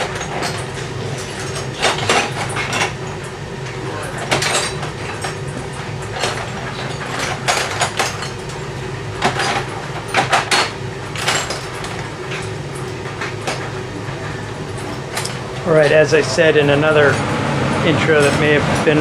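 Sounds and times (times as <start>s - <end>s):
hand tools clanking on metal: 0.0s - 19.0s
steady hum: 0.0s - 19.0s.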